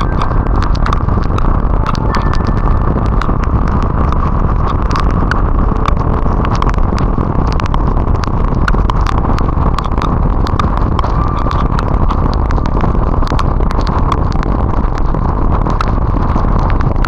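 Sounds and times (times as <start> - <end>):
raindrops ticking on camera: 0.0 - 17.0
wind rush: 0.0 - 17.0.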